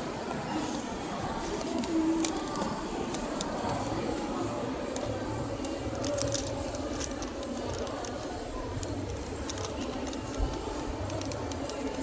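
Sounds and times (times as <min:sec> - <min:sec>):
murmur of voices: 0:00.0 - 0:12.0
small clicks and clinks: 0:00.7 - 0:12.0.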